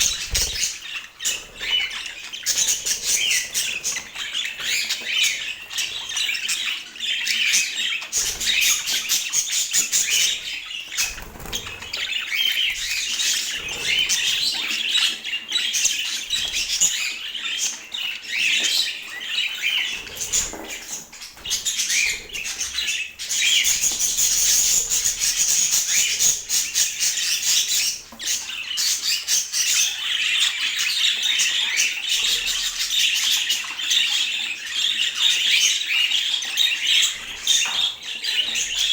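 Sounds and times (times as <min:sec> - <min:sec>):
budgerigar chirping and squawking: 0:00.0 - 0:38.9.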